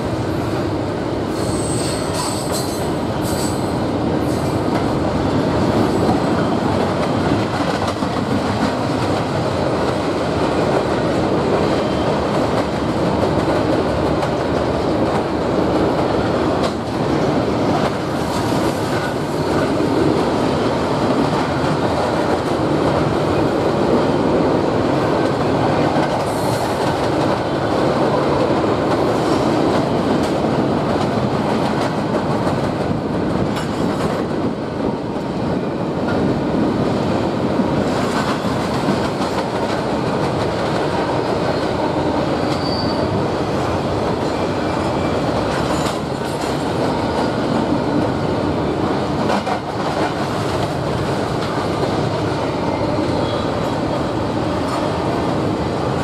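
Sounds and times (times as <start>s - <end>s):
freight train wheels clattering: 1.3s - 35.4s, 36.0s - 56.0s.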